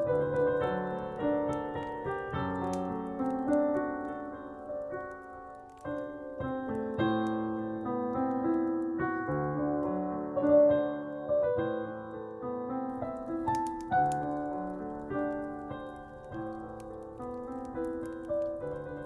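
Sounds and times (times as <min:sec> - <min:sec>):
fireplace crackles: 0:00.0 - 0:19.0
slow solo piano melody: 0:00.0 - 0:19.0.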